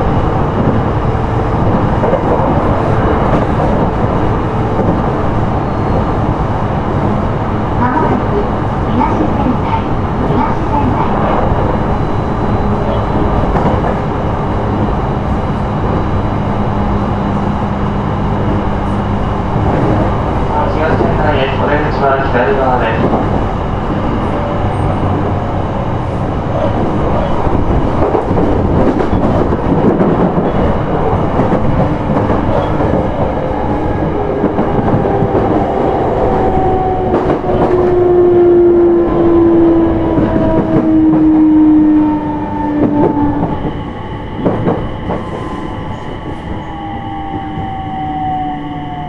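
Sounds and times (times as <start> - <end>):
train wheel and rail clatter: 0.0 - 47.8.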